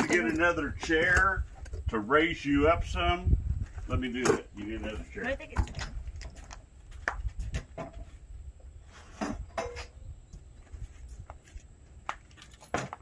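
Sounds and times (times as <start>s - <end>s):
wind rumble on microphone: 0.4s - 11.9s.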